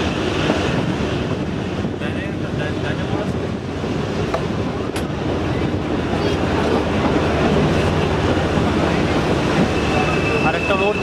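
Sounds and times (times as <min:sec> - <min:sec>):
train wheels rumbling and rattling: 0:00.0 - 0:11.0.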